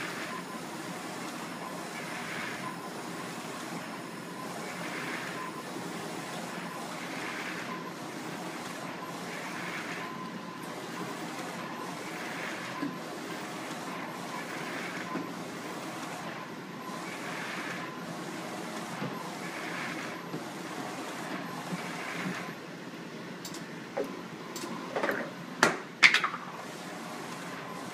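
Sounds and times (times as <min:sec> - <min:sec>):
printer mechanical whir: 0:00.0 - 0:27.9.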